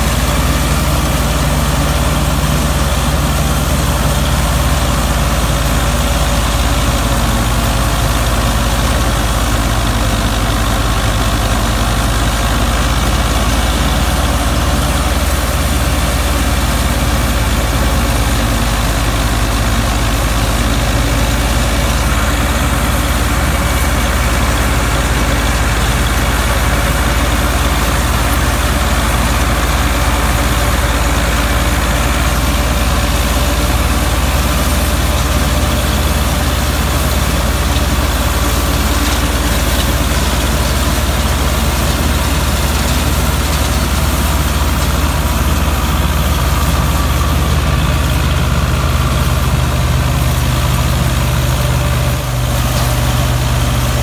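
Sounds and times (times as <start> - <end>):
straw chopper machinery: 0.0 - 54.0
tractor diesel engine droning: 0.0 - 54.0.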